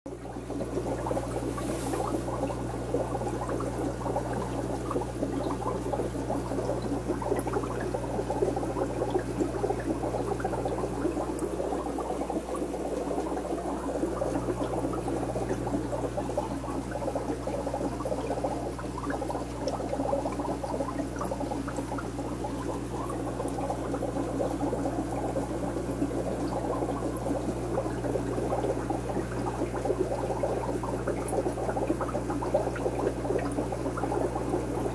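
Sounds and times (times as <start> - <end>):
aquarium water bubbling: 0.1 - 34.9
low electrical hum: 0.1 - 34.9.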